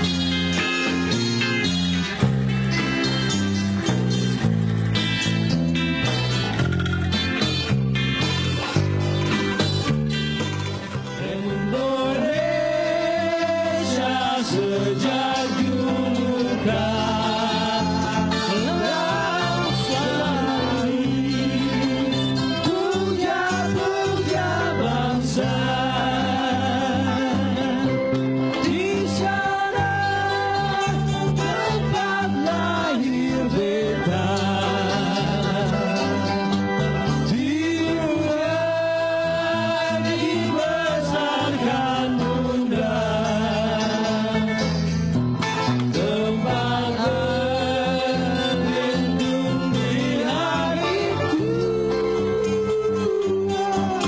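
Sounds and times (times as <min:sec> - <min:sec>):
live band with singer: 0:00.0 - 0:54.0
steady bass line: 0:00.0 - 0:54.0.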